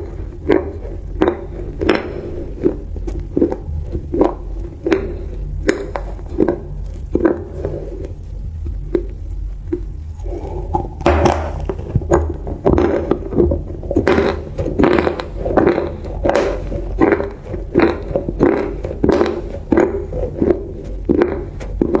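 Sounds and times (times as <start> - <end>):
chewing crunchy food: 0.0 - 22.0.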